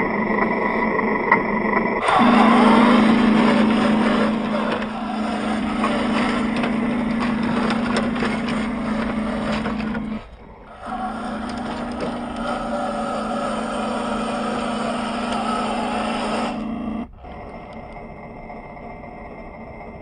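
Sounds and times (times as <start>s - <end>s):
toy truck motor and gearbox: 0.0s - 20.0s.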